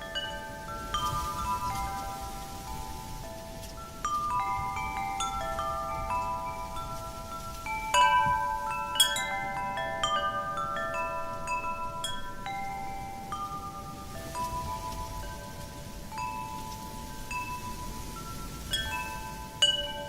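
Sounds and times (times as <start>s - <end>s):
faint wind noise: 0.0s - 20.0s
wind chimes ringing: 0.0s - 20.0s.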